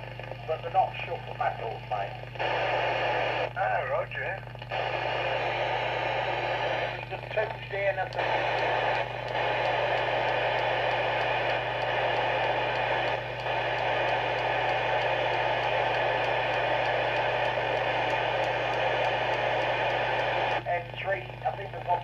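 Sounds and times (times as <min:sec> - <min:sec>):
steady low hum: 0:00.0 - 0:22.0
radio receiver hissing: 0:00.6 - 0:21.9.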